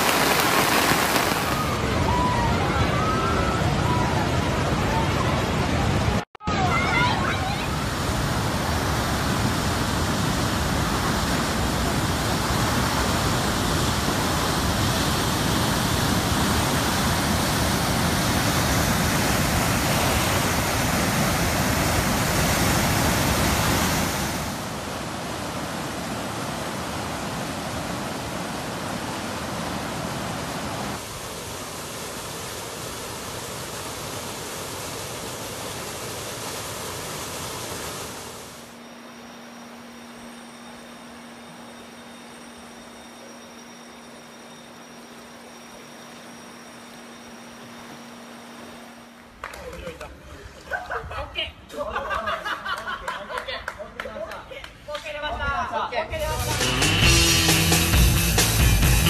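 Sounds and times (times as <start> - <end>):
floodwater rushing: 0.0 - 50.8.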